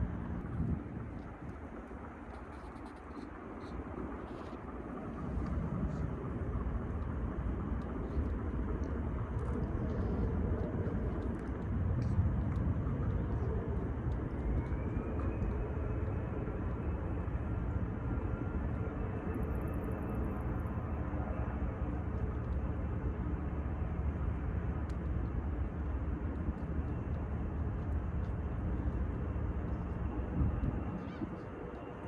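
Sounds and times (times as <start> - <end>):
jet engine rumble and whine: 0.0 - 32.0.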